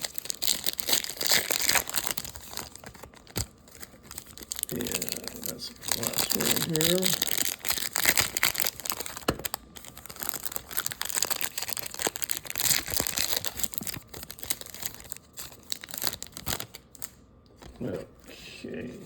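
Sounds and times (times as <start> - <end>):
wrapper tearing and crinkling: 0.0 - 17.8.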